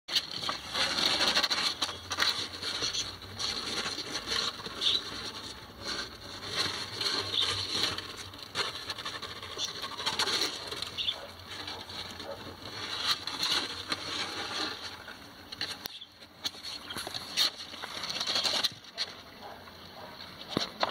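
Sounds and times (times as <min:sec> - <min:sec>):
kittens' claws scratching cardboard: 0:00.1 - 0:20.9.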